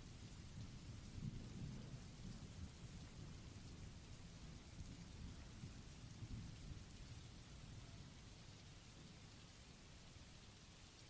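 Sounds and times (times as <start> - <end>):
rain hiss: 0.0 - 11.0.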